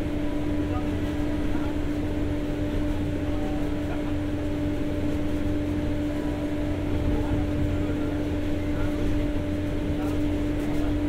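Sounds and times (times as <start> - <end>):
generator hum and whine: 0.0 - 11.0.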